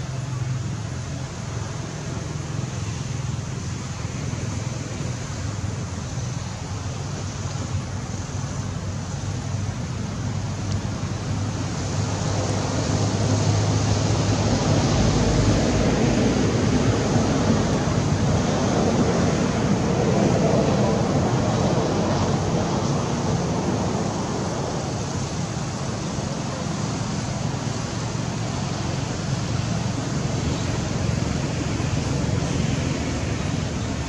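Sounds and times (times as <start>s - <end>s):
outdoor hiss: 0.0s - 34.0s.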